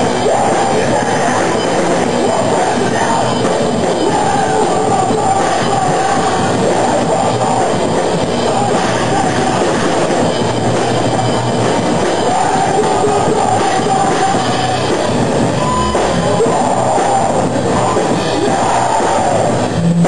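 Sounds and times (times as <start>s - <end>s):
rock band playing loudly: 0.0s - 20.0s.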